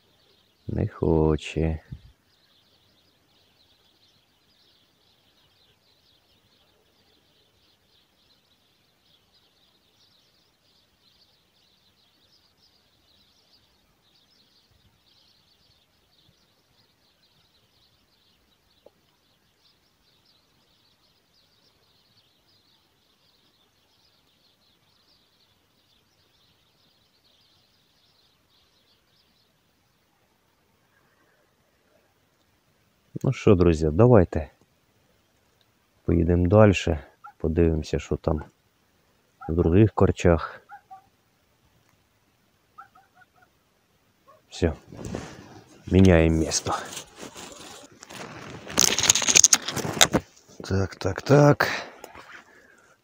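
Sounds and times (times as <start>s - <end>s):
faint high-pitched chirping: 0.0s - 53.0s.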